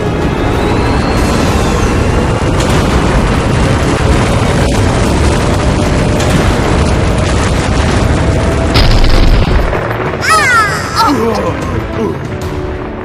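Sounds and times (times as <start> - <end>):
spaceship engine rumbling: 0.0 - 13.0.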